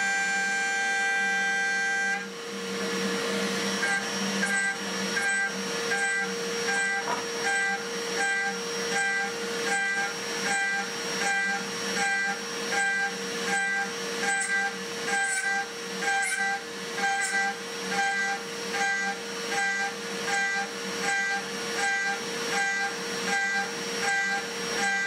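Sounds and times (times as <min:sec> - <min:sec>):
end mill cutting steel: 0:00.0 - 0:25.0.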